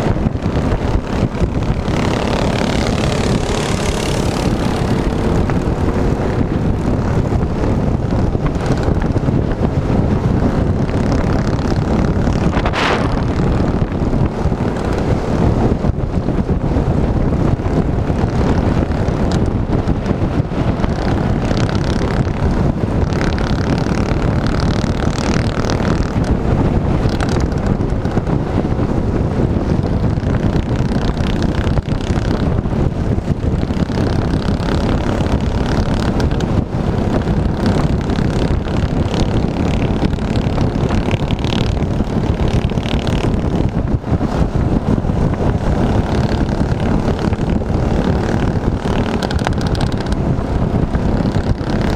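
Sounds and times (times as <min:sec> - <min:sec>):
minibike engine running: 0:00.0 - 0:51.9.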